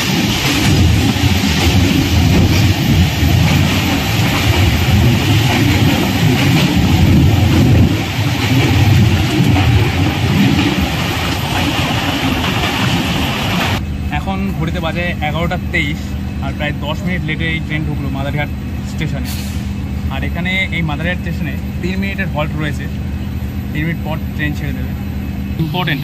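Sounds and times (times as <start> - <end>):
train coach rumbling on track: 0.0 - 26.0.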